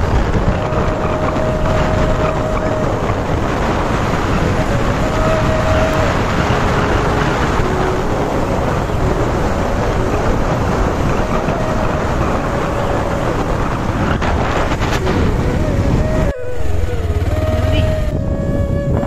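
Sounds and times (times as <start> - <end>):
faint engine hum: 0.0 - 19.0
wind and road noise: 0.0 - 19.0.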